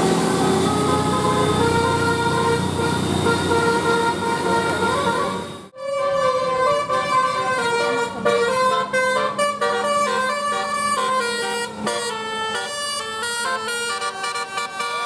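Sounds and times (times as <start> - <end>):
multi-tone air horn tune: 0.0 - 15.0.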